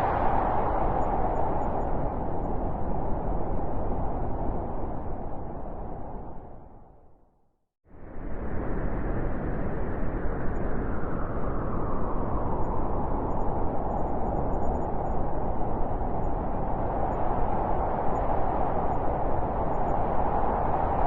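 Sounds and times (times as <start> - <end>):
blizzard wind howling: 0.0 - 7.3, 7.9 - 21.0.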